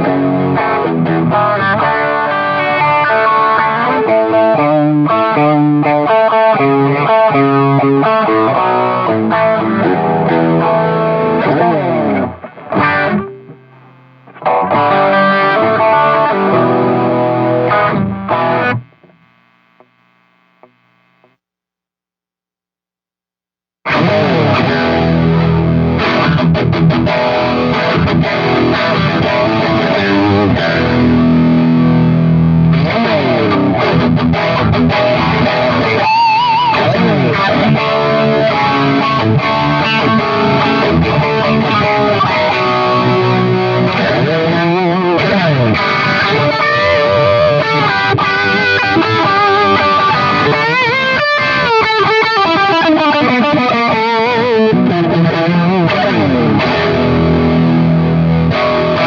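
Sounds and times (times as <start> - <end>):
distorted electric guitar: 0.0 - 21.4, 23.8 - 59.0.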